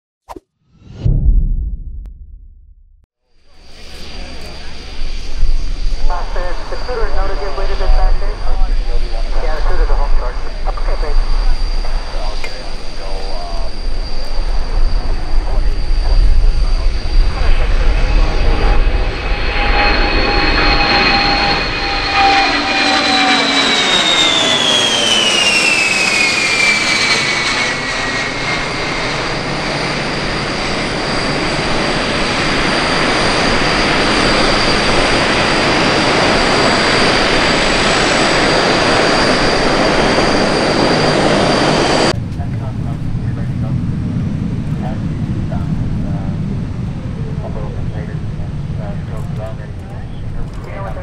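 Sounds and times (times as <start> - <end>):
jet aircraft flyby: 3.3 - 51.0.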